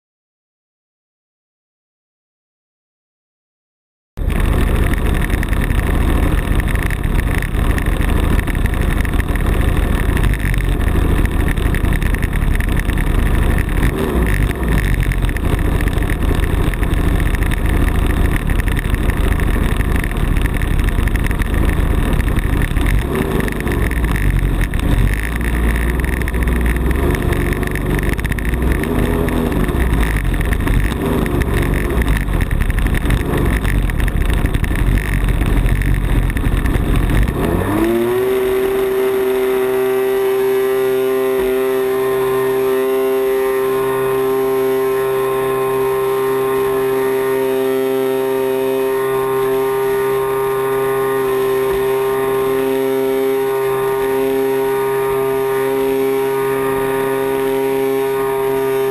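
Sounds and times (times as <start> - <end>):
two-stroke model airplane engine: 4.2 - 58.9.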